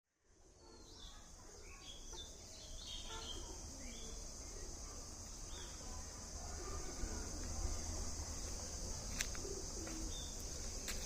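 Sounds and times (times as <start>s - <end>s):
birds chirping: 0.6s - 6.0s, 6.6s - 11.0s.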